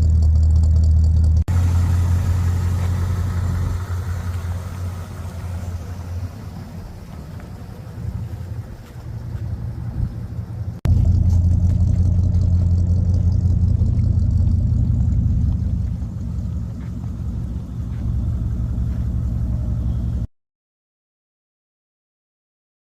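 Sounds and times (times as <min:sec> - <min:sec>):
car engine running: 0:00.0 - 0:20.3.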